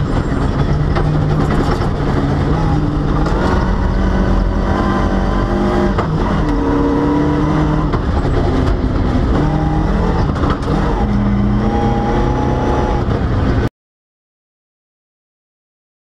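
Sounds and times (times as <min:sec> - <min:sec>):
rally car engine shifting gears: 0:00.0 - 0:13.7.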